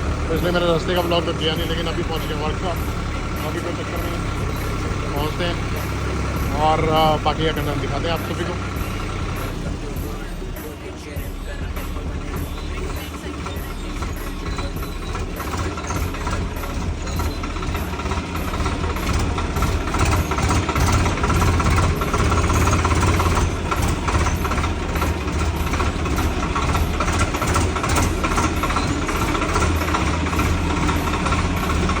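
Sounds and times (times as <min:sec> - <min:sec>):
engine running steadily: 0:00.0 - 0:32.0.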